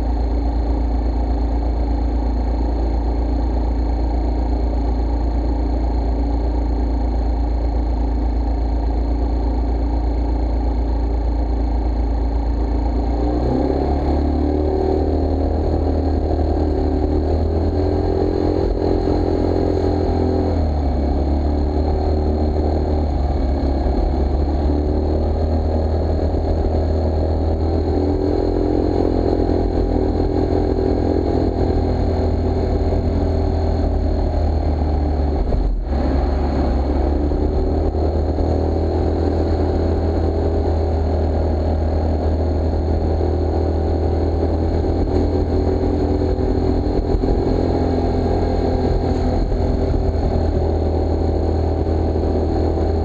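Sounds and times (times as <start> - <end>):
scooter engine idling and revving: 0.0 - 53.0.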